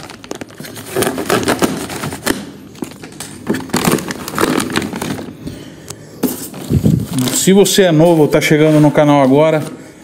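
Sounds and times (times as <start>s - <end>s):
plastic packaging crackling: 0.0s - 9.5s.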